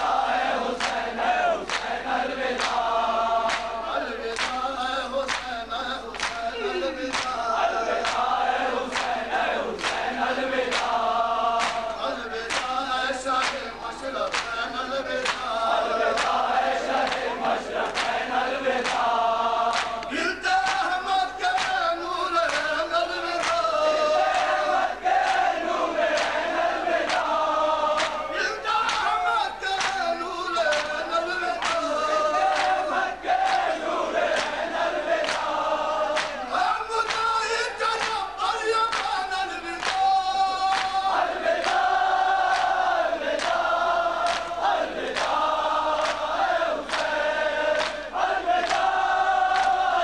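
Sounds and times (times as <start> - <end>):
crowd singing in chorus: 0.0 - 50.0
men chanting a lament: 0.0 - 50.0.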